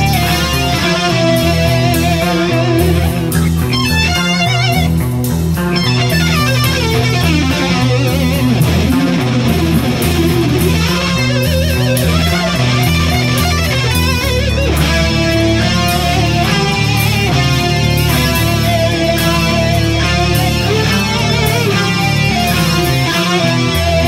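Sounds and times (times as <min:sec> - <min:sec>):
bass guitar: 0:00.0 - 0:24.0
distorted electric guitar solo: 0:00.0 - 0:24.0
rhythm guitar: 0:00.0 - 0:24.0.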